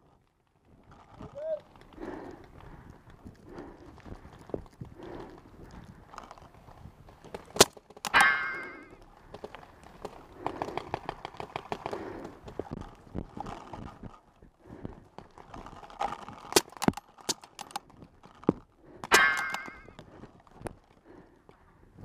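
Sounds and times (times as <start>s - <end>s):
gear knocking and rattling: 0.6s - 21.0s.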